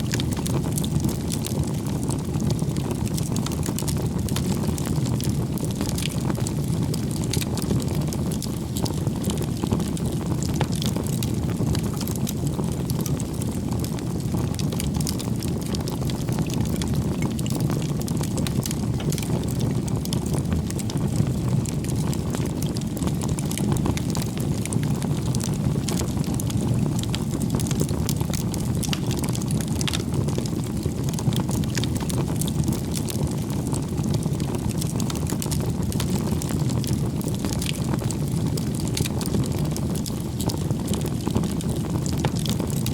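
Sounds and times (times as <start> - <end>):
campfire flame roar: 0.0 - 42.9
wood crackling and popping: 0.0 - 42.9.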